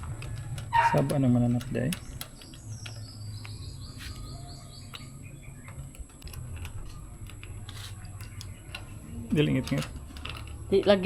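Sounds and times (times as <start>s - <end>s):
door latch hardware clicking: 0.0s - 3.6s, 4.4s - 10.6s.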